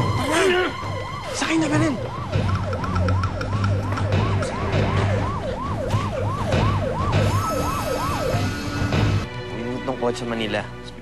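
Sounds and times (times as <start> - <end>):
low pulsing beat: 0.0 - 9.3
police siren yelping: 0.0 - 9.3.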